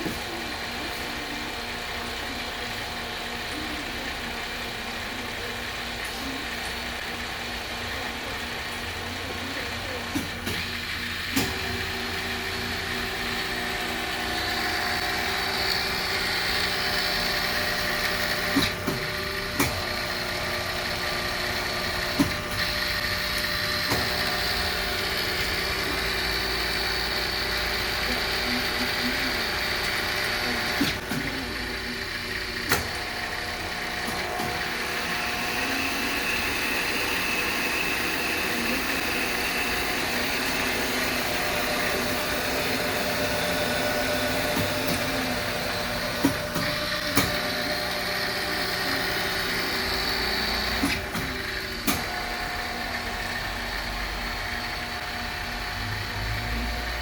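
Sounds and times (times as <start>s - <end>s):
lathe humming and whirring: 0.0s - 57.0s.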